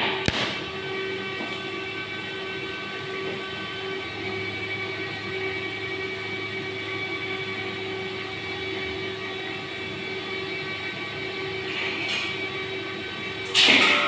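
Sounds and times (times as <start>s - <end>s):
exhaust hood fan running: 0.0s - 14.0s
gas burner roaring: 0.0s - 14.0s
steady hum tones: 0.0s - 14.0s.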